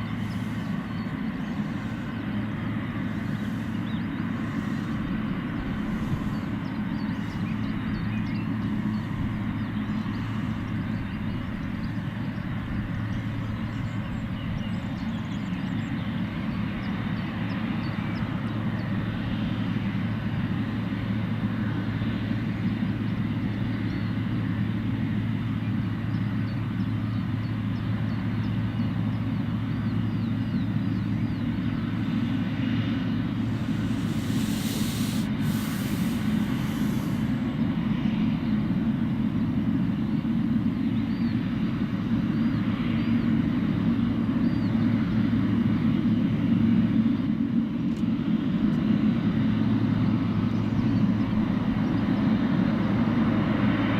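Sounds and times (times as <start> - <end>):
faint engine whine: 0.0 - 53.9
jet engines low hum: 0.0 - 53.9.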